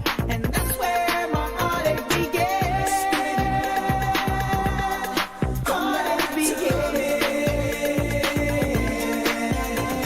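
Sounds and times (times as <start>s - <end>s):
pop track with drum beat: 0.0s - 10.0s.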